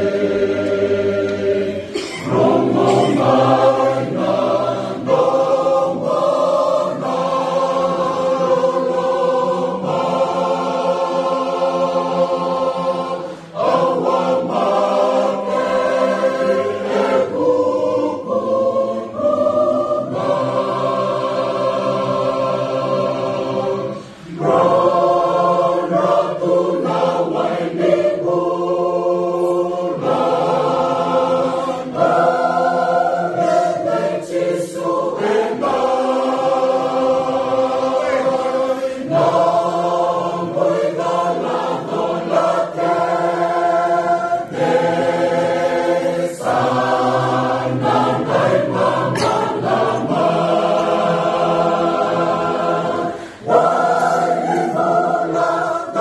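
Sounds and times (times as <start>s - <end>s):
mixed choir singing unaccompanied: 0.0s - 56.0s.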